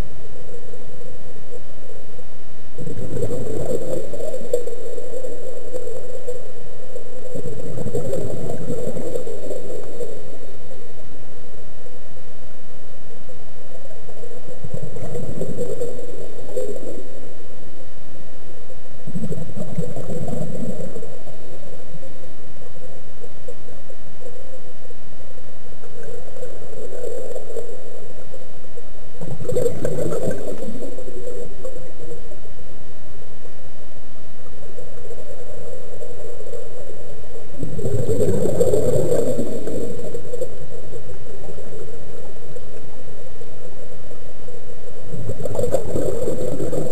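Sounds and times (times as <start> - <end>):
exhaled bubbles gurgling underwater: 0.0 - 46.9
steady underwater hiss: 0.0 - 46.9.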